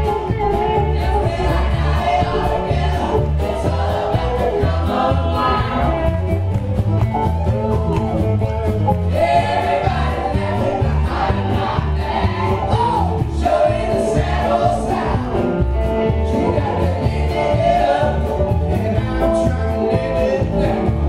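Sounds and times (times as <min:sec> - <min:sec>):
people singing: 0:00.0 - 0:06.6, 0:08.9 - 0:21.0
drums with steady beat: 0:00.0 - 0:21.0
guitar: 0:00.0 - 0:21.0
upright bass: 0:00.0 - 0:21.0.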